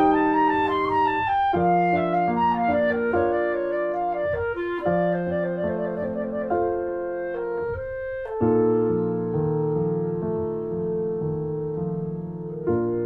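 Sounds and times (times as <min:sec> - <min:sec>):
piano chords: 0:00.0 - 0:13.0
woodwind melody: 0:00.0 - 0:13.0.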